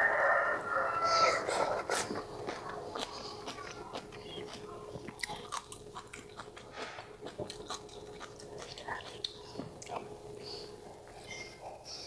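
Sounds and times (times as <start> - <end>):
close chewing with wet crunches: 0.5 - 12.0.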